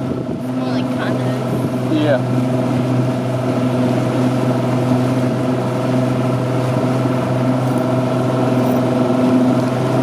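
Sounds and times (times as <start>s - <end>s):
outboard engine humming: 0.0s - 10.0s
wind and water rushing: 0.0s - 10.0s.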